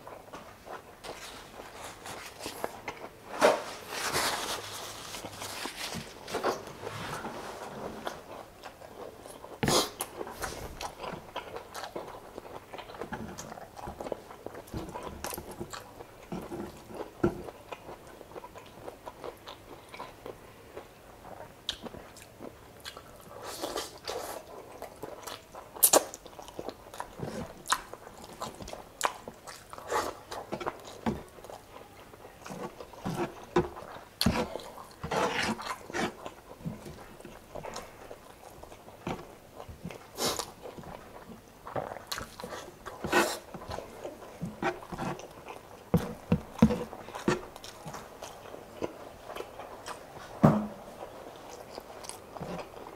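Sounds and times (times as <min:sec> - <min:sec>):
person chewing wetly: 0:08.0 - 0:52.9.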